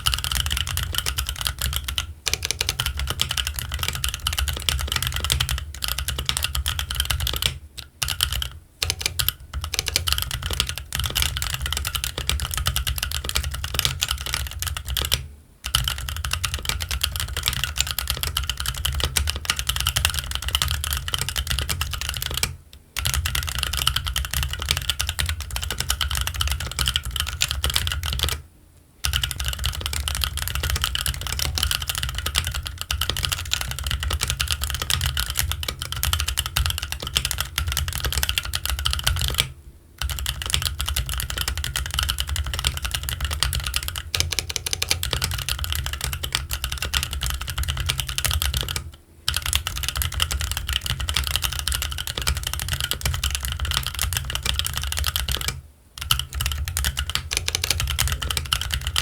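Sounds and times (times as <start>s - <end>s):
fast mechanical keyboard typing: 0.0s - 28.4s, 29.0s - 59.0s.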